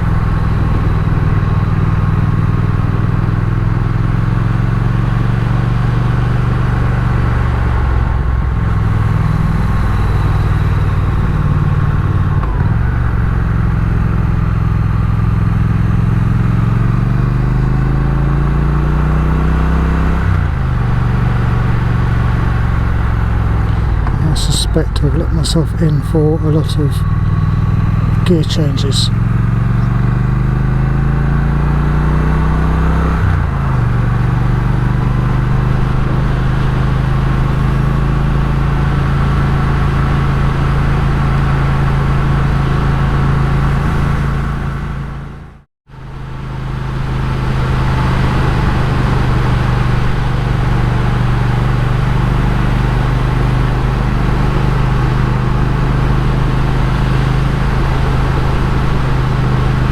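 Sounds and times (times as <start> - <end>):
motorcycle engine on the move: 0.0 - 59.9.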